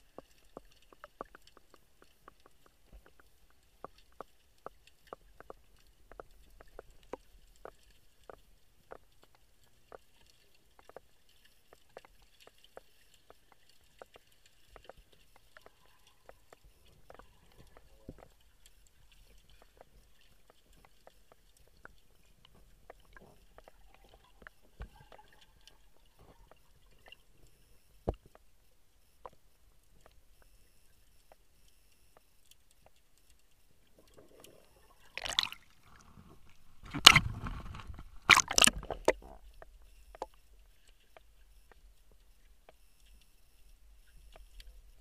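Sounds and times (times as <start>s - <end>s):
faint underwater clicks: 0.0s - 45.0s.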